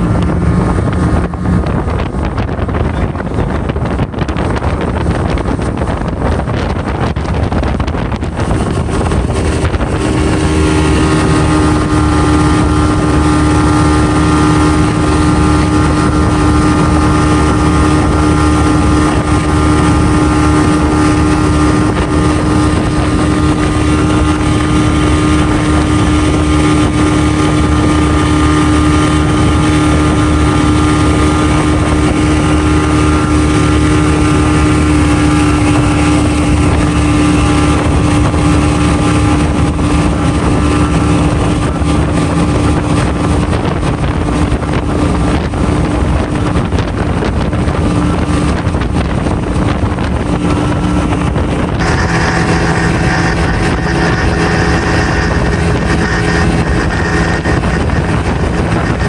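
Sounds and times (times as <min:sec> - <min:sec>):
motorboat engine at high speed: 0:00.0 - 0:59.0
wind: 0:00.0 - 0:59.0.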